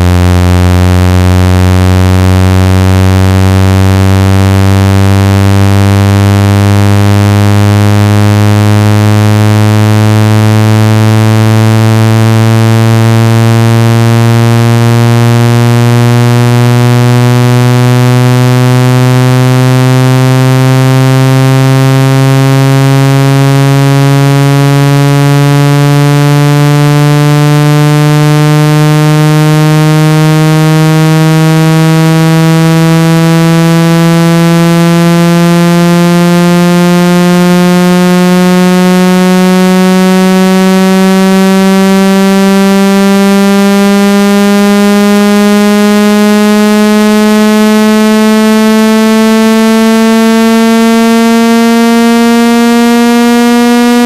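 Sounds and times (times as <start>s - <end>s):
buzzy low tone rising in pitch: 0.0s - 54.0s.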